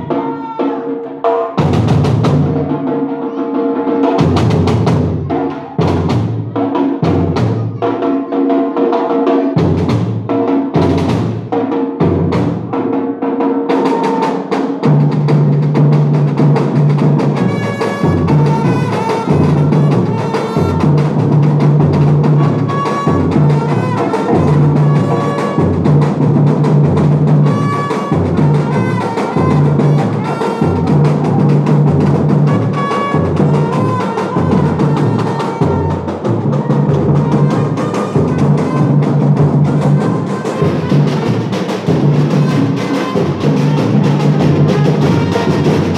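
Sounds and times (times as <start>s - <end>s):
percussion ensemble groove: 0.0s - 45.9s.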